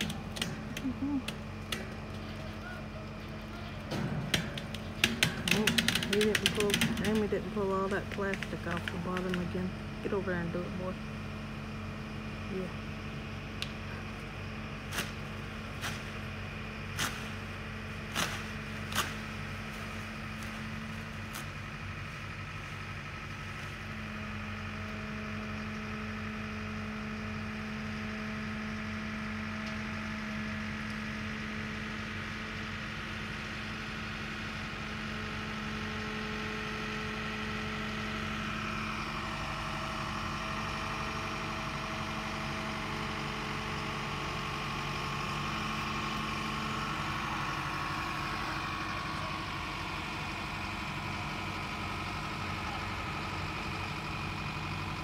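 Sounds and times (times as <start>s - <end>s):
heavy engine humming: 0.0s - 55.0s.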